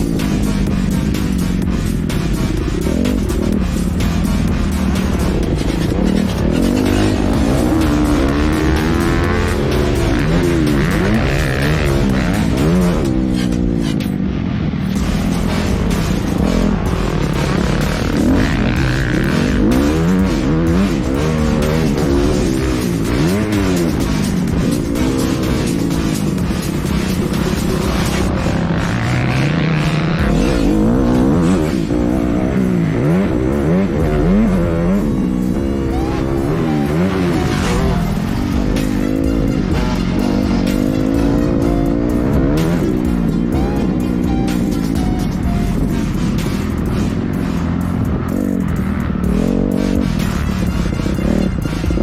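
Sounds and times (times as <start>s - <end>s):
motocross bike engine revving: 0.0s - 52.0s.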